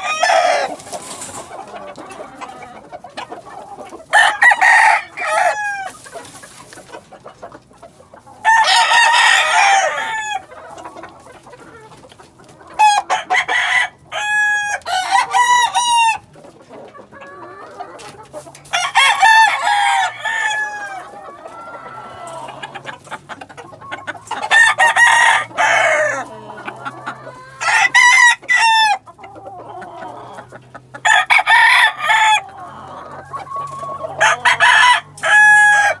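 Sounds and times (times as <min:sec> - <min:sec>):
roosters crowing: 0:00.0 - 0:06.9, 0:07.6 - 0:11.9, 0:12.5 - 0:16.4, 0:17.0 - 0:36.0
chickens clucking: 0:00.0 - 0:36.0.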